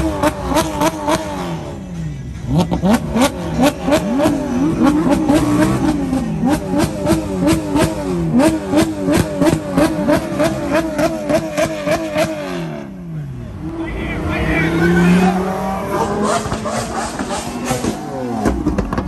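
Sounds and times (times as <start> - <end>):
car engine revving in throttle blips: 0.0 - 19.0.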